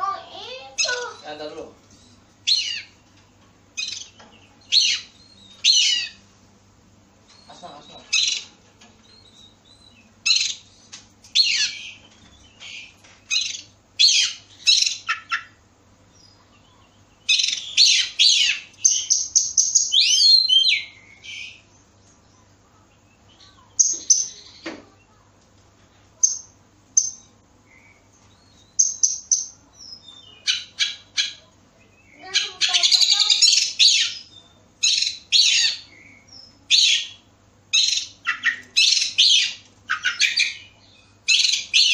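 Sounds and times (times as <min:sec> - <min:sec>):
songbird chirps and whistles: 0:02.0 - 0:03.0, 0:03.7 - 0:06.2, 0:07.3 - 0:25.1, 0:26.2 - 0:41.9.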